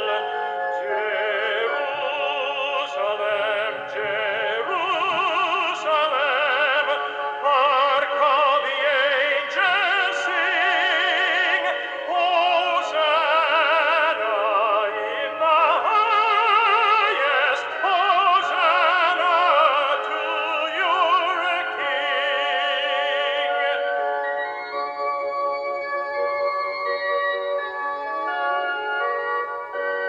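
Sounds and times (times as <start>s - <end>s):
sacred classical song with vibrato: 0.0s - 30.0s.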